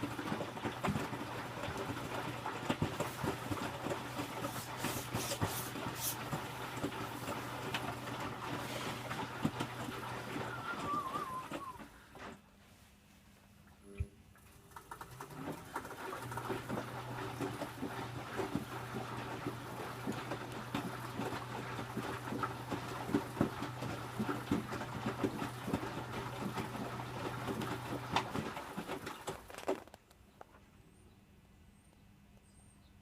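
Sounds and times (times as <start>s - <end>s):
laundry sloshing and thudding: 0.0s - 12.4s, 15.2s - 30.0s
washing machine motor hum: 0.0s - 12.5s, 13.6s - 29.7s.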